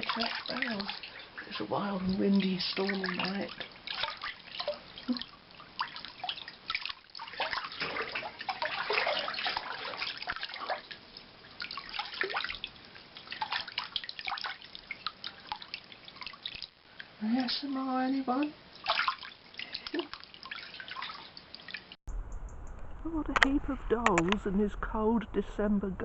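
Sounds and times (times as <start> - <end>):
water dripping and splashing: 0.0 - 22.0.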